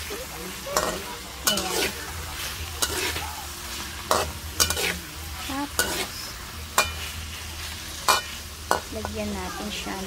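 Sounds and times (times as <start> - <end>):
meat and vegetables sizzling in wok: 0.0 - 10.0
metal spatula scraping pan: 0.8 - 9.2.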